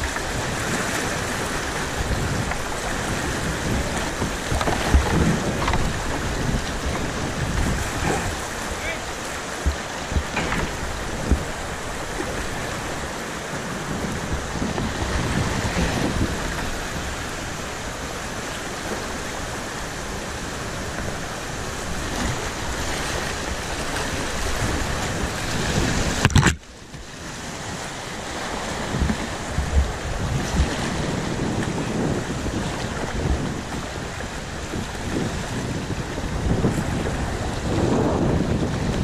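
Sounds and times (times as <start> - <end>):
rushing river water: 0.0 - 39.0
wind on microphone: 0.0 - 39.0.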